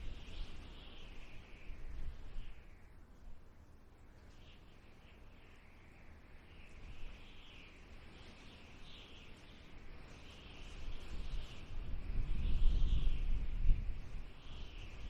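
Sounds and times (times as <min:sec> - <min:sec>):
desert wind whistling hiss: 0:00.0 - 0:15.0.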